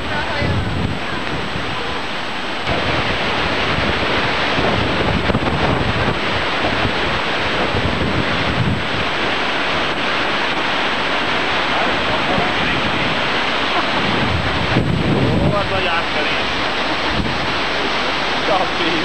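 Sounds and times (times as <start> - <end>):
stream rushing over boulders: 0.0 - 19.0
wind buffeting microphone: 0.0 - 19.0.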